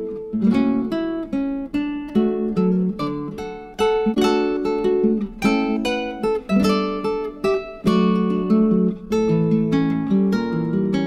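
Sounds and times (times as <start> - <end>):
acoustic guitar strummed: 0.0 - 11.0.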